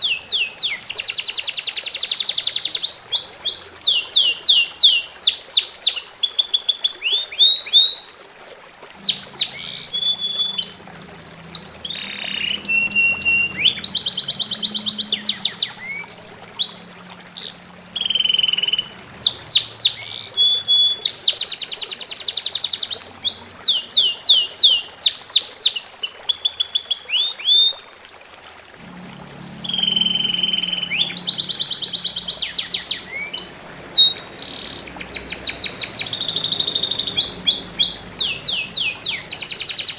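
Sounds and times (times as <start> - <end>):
songbird singing: 0.0 - 8.1, 9.0 - 27.9, 28.8 - 39.9.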